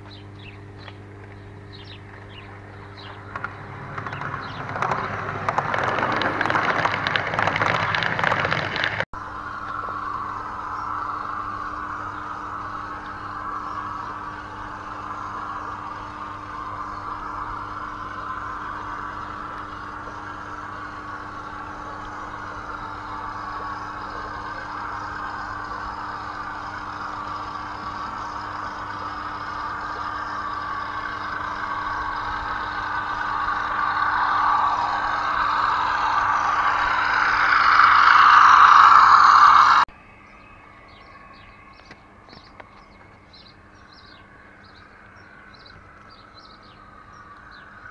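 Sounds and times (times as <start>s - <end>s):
birds chirping faintly: 0.0s - 47.9s
mechanical running noise: 0.0s - 47.9s.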